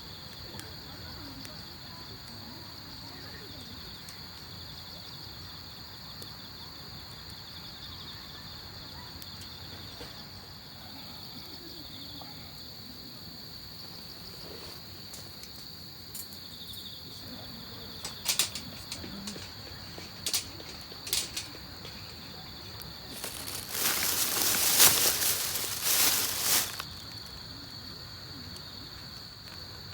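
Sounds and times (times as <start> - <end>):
crickets chirping: 0.0 - 29.9.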